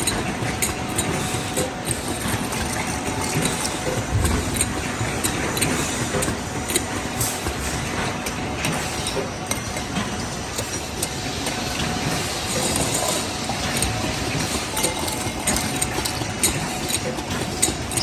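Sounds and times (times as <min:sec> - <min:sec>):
factory machinery running: 0:00.0 - 0:18.0.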